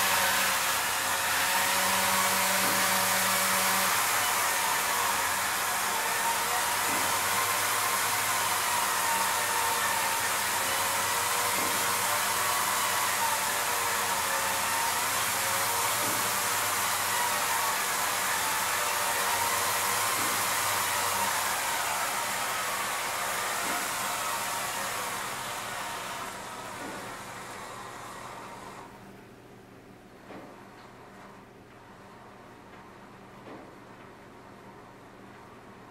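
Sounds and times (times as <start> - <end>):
camera rig motors whining: 0.0 - 29.0.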